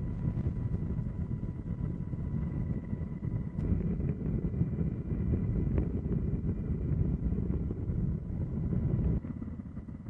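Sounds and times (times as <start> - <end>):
engine drone: 0.0 - 10.0
wind buffeting microphone: 0.0 - 10.0.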